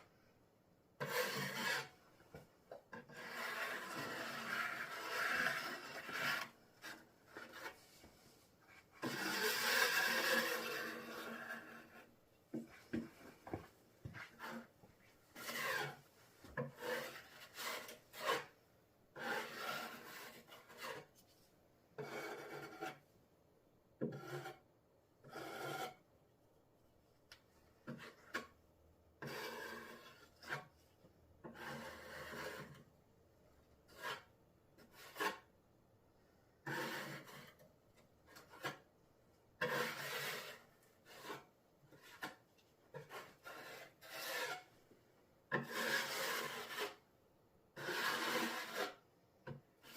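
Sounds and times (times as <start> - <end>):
blade scraping cement on tabletop: 1.0 - 21.4, 22.0 - 23.1, 24.0 - 26.1, 27.3 - 28.6, 29.2 - 33.0, 33.8 - 35.5, 36.6 - 39.0, 39.6 - 44.9, 45.5 - 47.1, 47.7 - 49.9.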